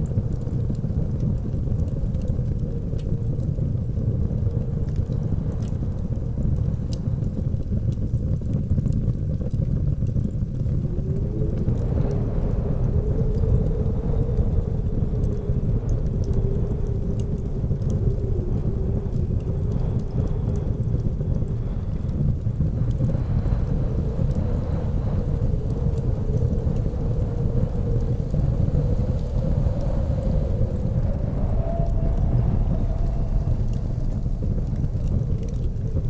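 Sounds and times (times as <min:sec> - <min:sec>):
blizzard wind rumbling: 0:00.0 - 0:36.0
faint wavering wind howl: 0:00.0 - 0:36.0
wood fire crackling: 0:00.0 - 0:36.0.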